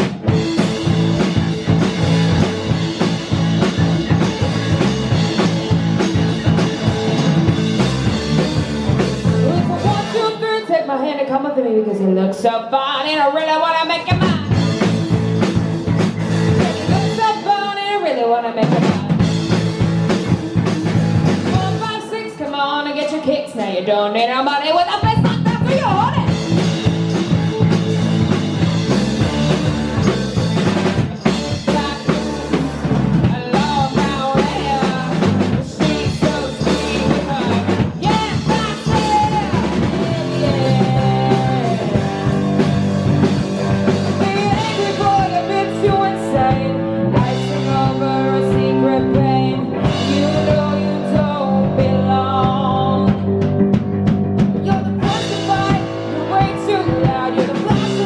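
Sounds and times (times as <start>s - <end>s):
live rock band playing: 0.0s - 10.7s, 13.8s - 58.0s.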